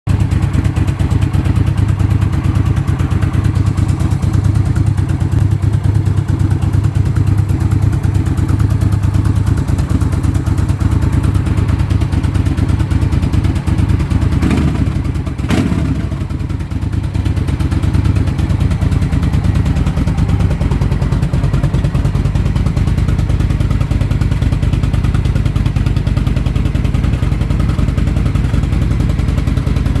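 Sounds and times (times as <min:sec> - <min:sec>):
motorcycle engine idling: 0:00.1 - 0:30.0
motorcycle engine revving: 0:00.1 - 0:30.0.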